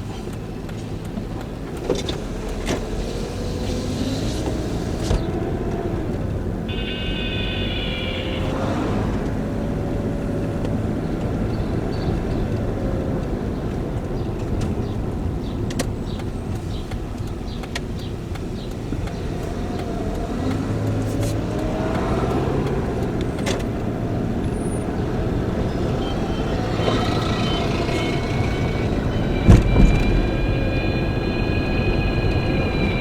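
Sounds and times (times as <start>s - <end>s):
car engine rumble: 0.0s - 33.0s.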